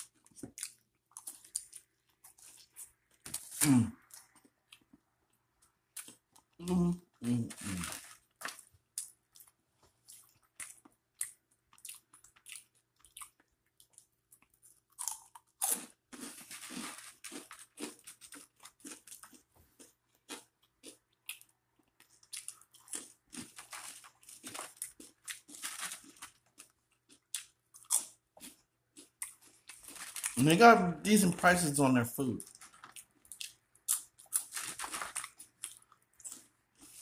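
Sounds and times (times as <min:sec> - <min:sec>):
person chewing crunchy food: 0:00.0 - 0:30.4, 0:32.4 - 0:37.0.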